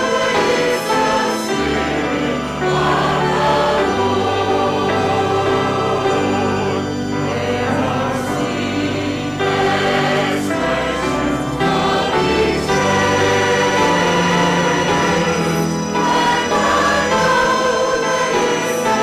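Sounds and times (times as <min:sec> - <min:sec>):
congregation singing a hymn: 0:00.0 - 0:19.0
instrumental accompaniment: 0:00.0 - 0:19.0.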